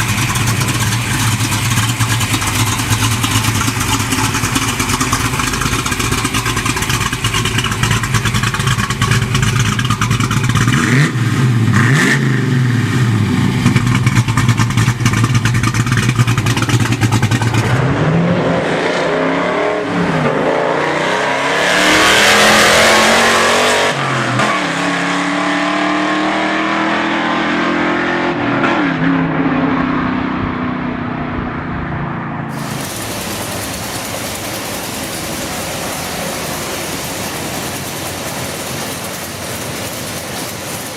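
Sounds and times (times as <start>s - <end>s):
car engine revving: 0.0s - 28.3s, 32.5s - 40.9s.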